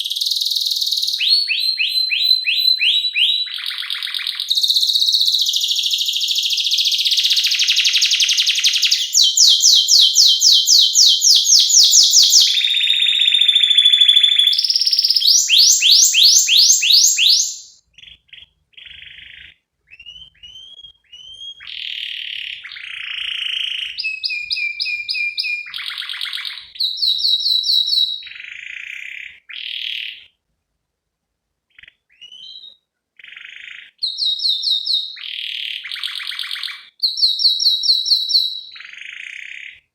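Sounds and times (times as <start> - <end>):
canary singing: 0.0 - 30.4, 31.7 - 39.8.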